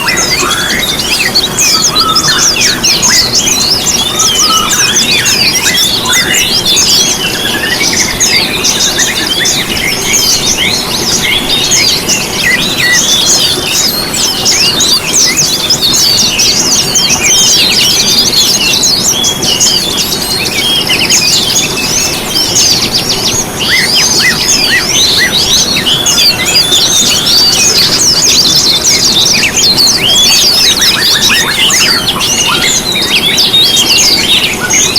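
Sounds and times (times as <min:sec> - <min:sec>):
songbirds chirping and twittering: 0:00.0 - 0:34.9.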